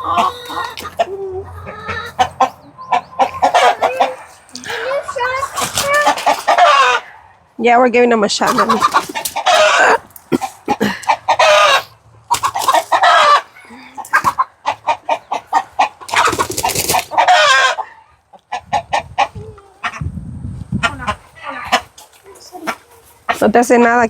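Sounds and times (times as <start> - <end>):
chickens clucking: 0.0 - 7.6, 8.3 - 24.0
chickens squawking: 0.0 - 7.6, 8.3 - 20.2, 20.8 - 23.5.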